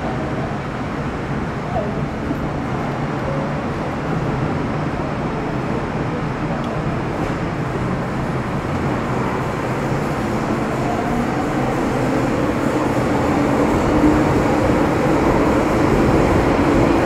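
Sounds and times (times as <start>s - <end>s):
train wheels and traction rumble: 0.0s - 17.0s.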